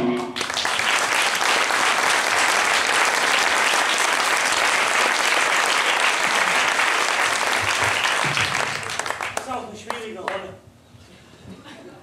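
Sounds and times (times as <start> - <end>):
audience applauding: 0.2 - 10.5.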